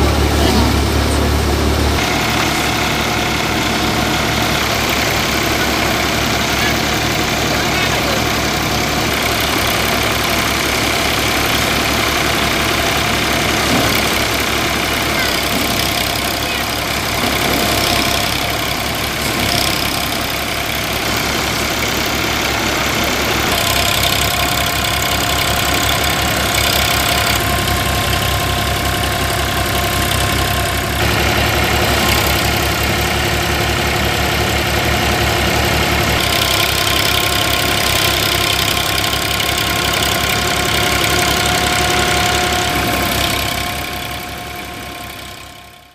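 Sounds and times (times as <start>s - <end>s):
thresher drum whine: 0.0s - 45.9s
tractor diesel engine running: 0.0s - 45.9s.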